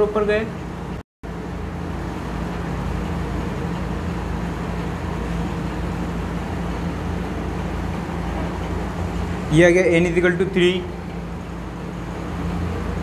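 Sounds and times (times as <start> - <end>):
fan hum and hiss: 0.0 - 13.0.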